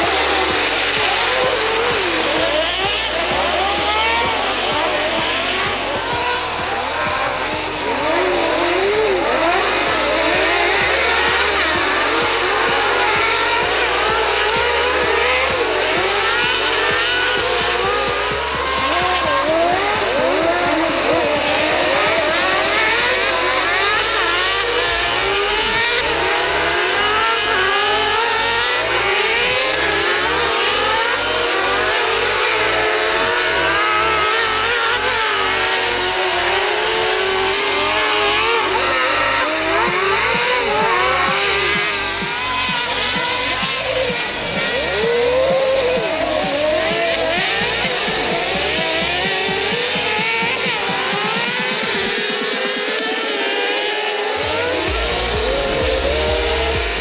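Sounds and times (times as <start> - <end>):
racing engines revving: 0.0 - 57.0.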